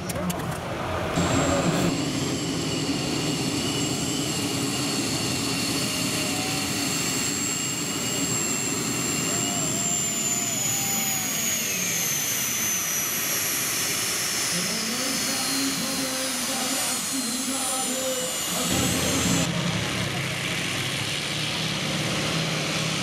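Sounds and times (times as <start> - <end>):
turbine tractor engine whine: 0.0 - 23.0.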